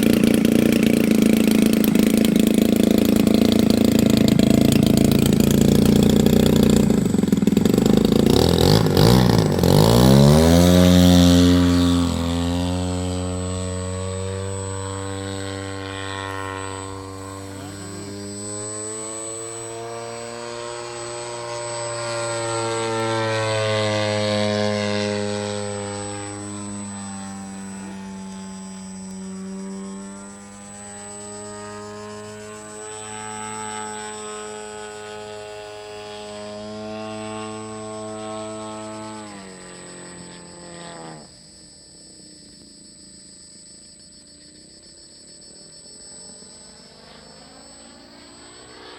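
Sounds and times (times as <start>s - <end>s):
model airplane engine: 0.0s - 48.9s.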